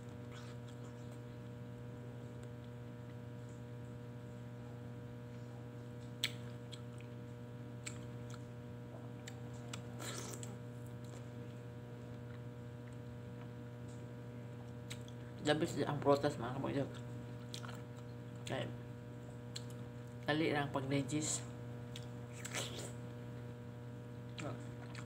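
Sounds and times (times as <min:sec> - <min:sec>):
person chewing soft fruit: 0:00.0 - 0:15.4, 0:16.9 - 0:18.6, 0:19.2 - 0:20.3, 0:21.8 - 0:25.0
electrical hum: 0:00.0 - 0:25.0.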